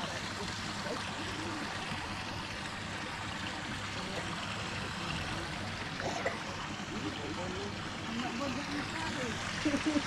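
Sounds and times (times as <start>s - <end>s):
water trickling and rippling: 0.0s - 10.0s.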